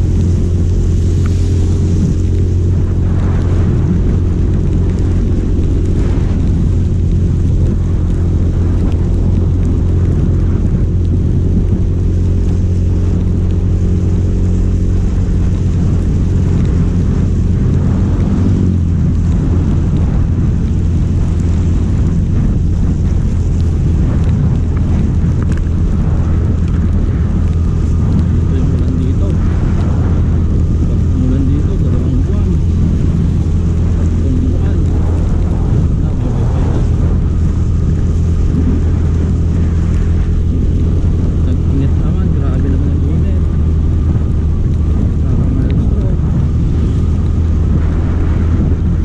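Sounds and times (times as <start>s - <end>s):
engine running loud: 0.0s - 49.0s.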